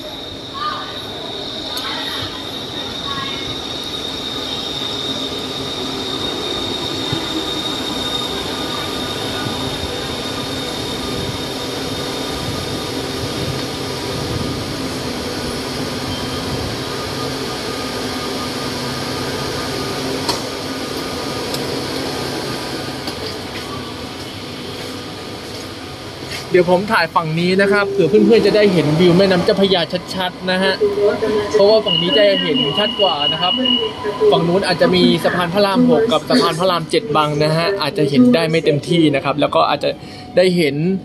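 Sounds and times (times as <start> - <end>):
metro train brakes squealing: 0.0 - 38.8
train rumble and hum: 0.0 - 40.4.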